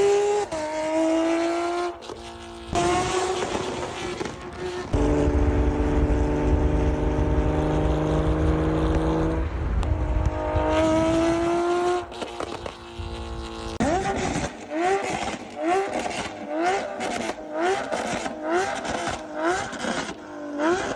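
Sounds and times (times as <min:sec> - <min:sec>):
sports car engine revving: 0:00.0 - 0:20.9.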